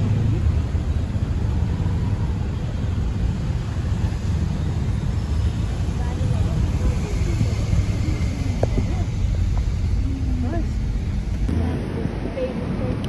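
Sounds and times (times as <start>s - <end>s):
car driving interior rumble: 0.0s - 13.0s.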